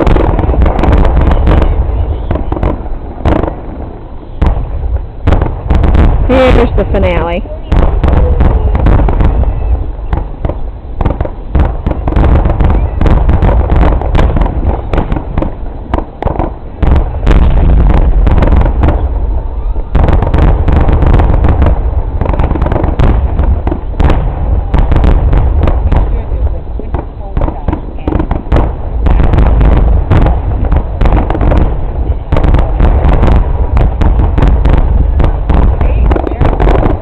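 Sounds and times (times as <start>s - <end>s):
fireworks bursts and booms: 0.0s - 37.0s.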